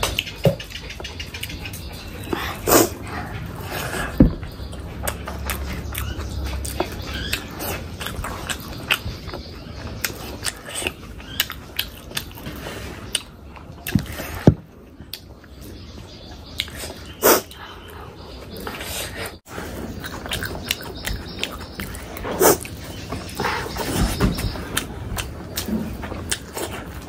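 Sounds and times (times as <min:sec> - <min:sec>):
mouth chewing and smacking: 0:00.0 - 0:14.4, 0:16.5 - 0:18.0, 0:18.6 - 0:27.0.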